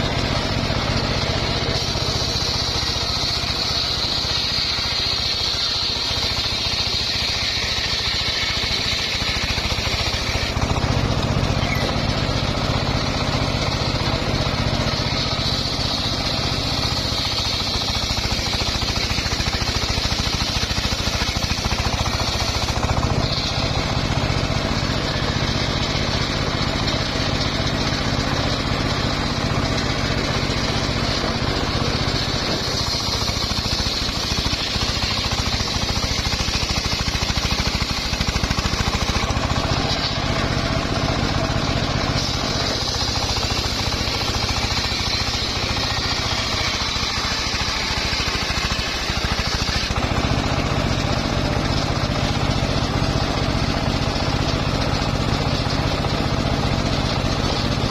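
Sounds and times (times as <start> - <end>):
high-pitched saw blade whine: 0.0 - 54.2
circular sawmill running: 0.0 - 57.9.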